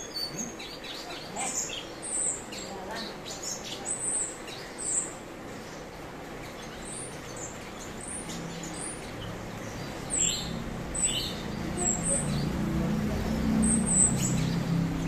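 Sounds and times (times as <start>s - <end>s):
songbird high chirps: 0.0s - 15.0s.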